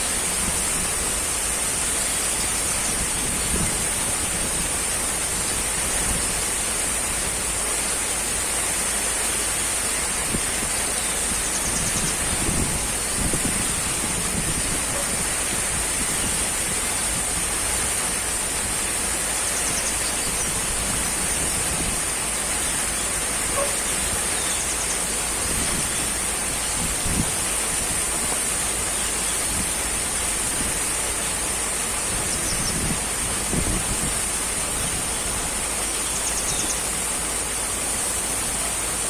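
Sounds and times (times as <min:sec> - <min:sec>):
steady rushing noise with hiss: 0:00.0 - 0:39.0.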